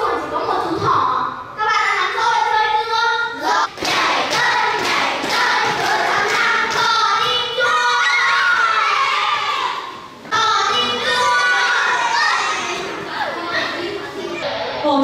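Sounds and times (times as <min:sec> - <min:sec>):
children shouting and laughing: 0:00.0 - 0:15.0.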